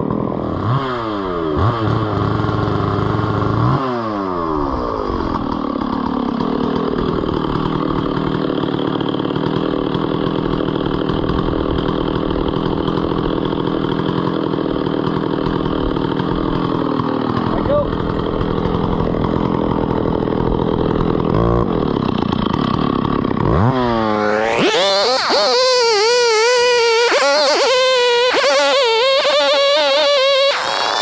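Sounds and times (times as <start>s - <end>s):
engine revving down: 0.0s - 31.0s.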